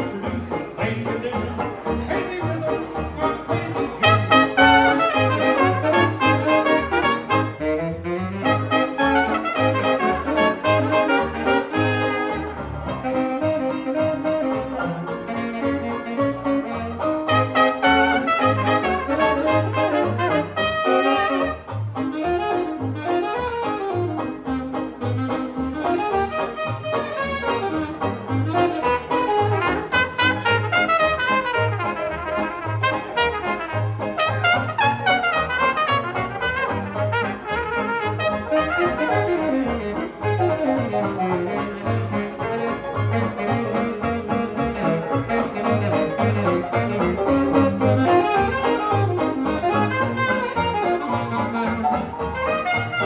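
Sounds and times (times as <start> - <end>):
bass beat: 0.0 - 53.0
jazz band playing: 0.0 - 53.0
horn melody: 2.4 - 53.0.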